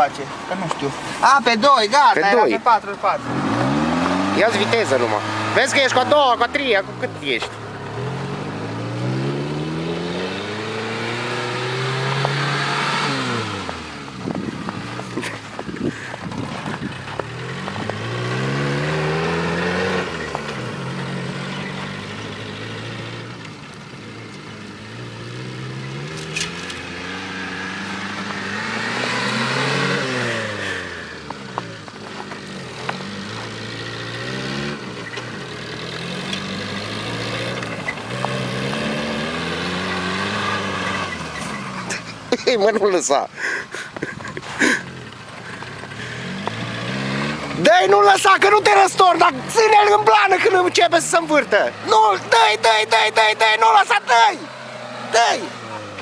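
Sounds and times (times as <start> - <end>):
jeep engine revving: 0.0 - 56.0.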